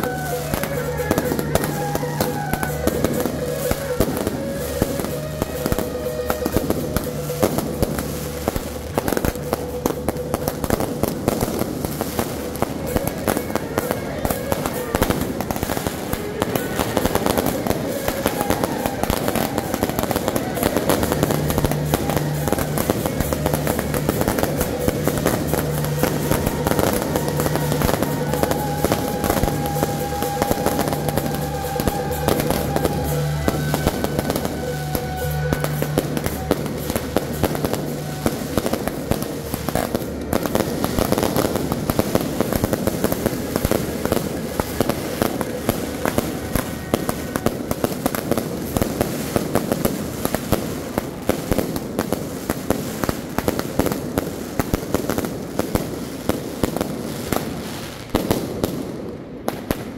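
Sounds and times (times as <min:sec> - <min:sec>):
fireworks crackling bangs: 0:00.0 - 0:59.9.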